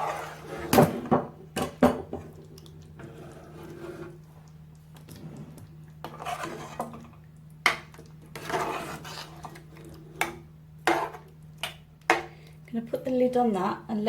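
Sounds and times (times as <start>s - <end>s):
spoon stirring and scraping a pan: 0.0s - 12.4s.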